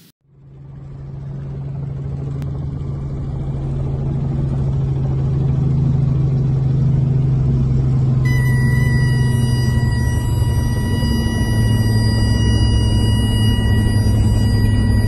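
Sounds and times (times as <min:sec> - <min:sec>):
helicopter engine and rotor drone: 0:00.3 - 0:15.0.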